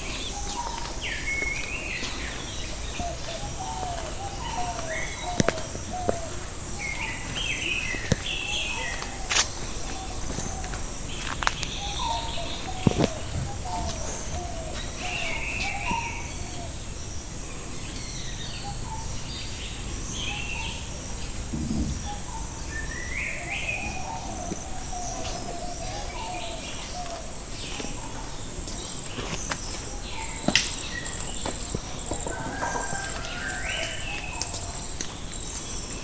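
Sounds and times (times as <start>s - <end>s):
birds chirping: 0.0s - 36.0s
insects droning: 0.0s - 36.0s.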